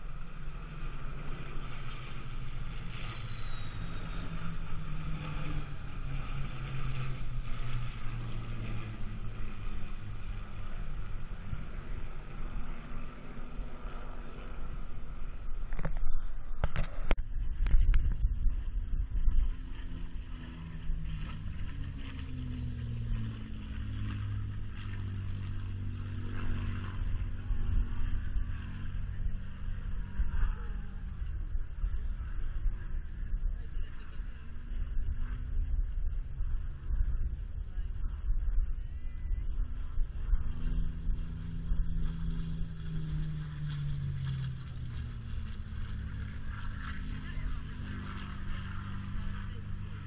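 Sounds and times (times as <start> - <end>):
propeller aircraft flying past: 0.0 - 50.0
wind rumble on microphone: 0.0 - 50.0.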